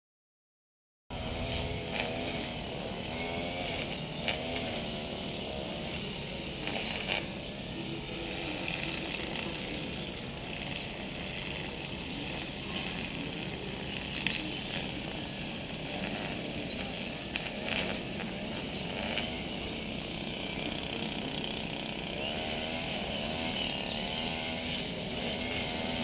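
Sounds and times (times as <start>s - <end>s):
motor engine running: 1.1s - 26.0s
outdoor background noise: 1.1s - 26.0s.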